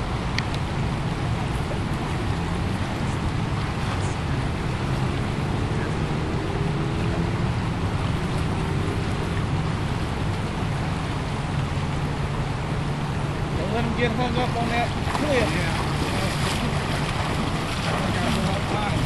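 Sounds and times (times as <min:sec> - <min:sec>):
fast-flowing river water: 0:00.0 - 0:19.0.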